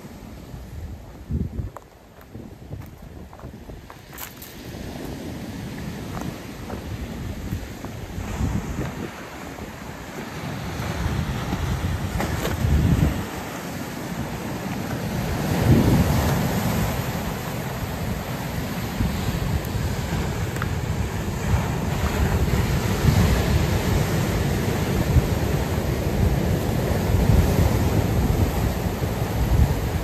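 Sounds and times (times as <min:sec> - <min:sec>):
surf breaking on rocky shore: 0:00.0 - 0:30.0
wind buffeting microphone: 0:00.5 - 0:30.0.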